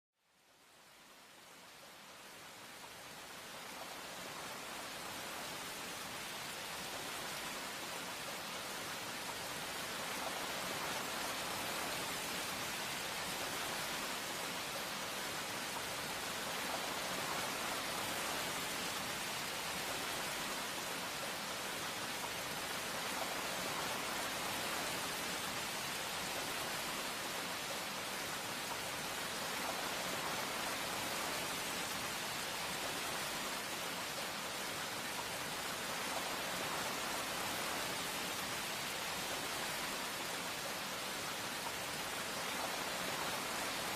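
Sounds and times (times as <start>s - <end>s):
steady rain falling: 0.2s - 43.9s.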